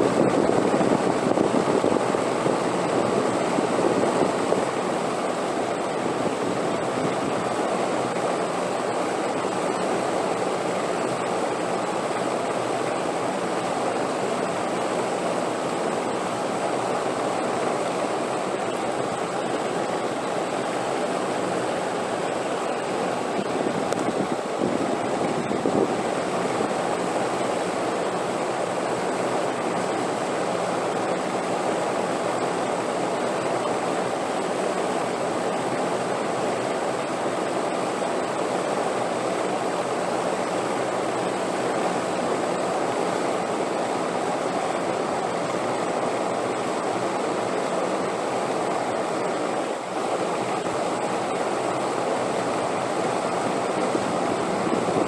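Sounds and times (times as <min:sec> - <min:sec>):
rushing wind: 0:00.0 - 0:55.0.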